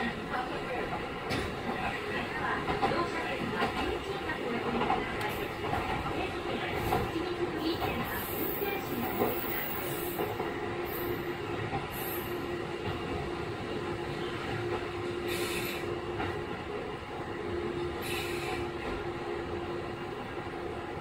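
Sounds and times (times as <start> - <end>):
railcar engine and wheels rumbling: 0.0 - 21.0.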